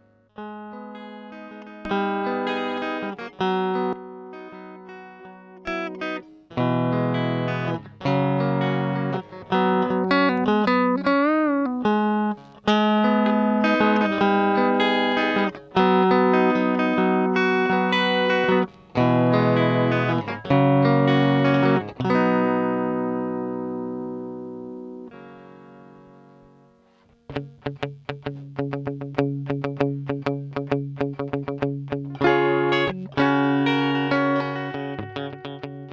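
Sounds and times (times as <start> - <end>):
electric guitar notes and chords: 0.0 - 35.9.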